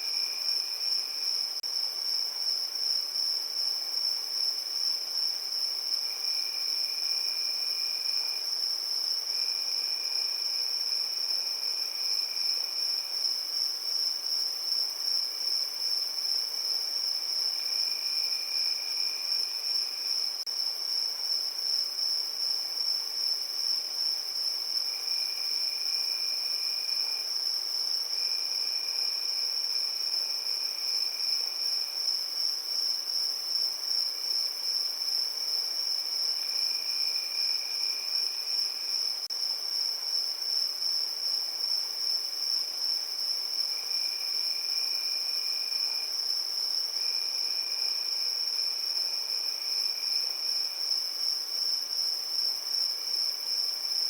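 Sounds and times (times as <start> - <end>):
crickets chirping: 0.0 - 54.0
high-pitched insect trill: 0.0 - 54.0
lower insect trill: 0.0 - 54.0.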